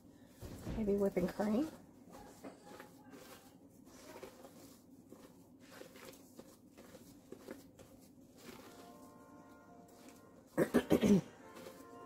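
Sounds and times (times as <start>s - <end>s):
spatula swishing in a bowl: 0.8s - 10.6s.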